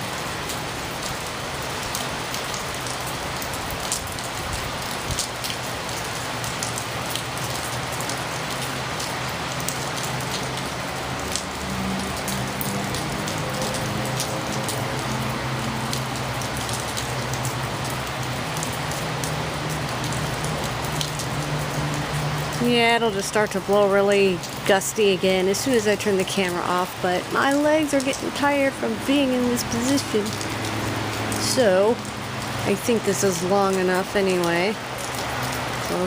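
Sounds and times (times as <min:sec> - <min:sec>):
heavy rain pouring: 0:00.0 - 0:36.0
sharp drip ticks: 0:00.1 - 0:36.0.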